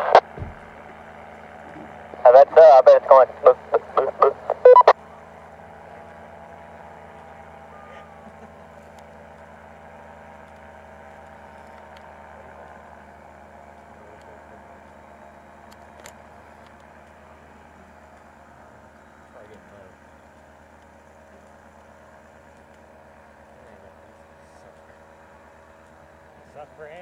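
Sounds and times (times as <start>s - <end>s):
distant paramotor engine droning: 0.0s - 27.0s.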